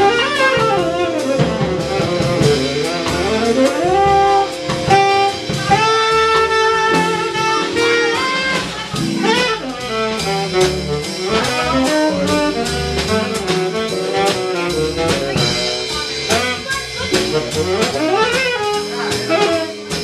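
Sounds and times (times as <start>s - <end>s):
drums with cymbal beat: 0.0s - 20.0s
tenor saxophone solo: 0.0s - 20.0s
upright bass: 0.0s - 20.0s.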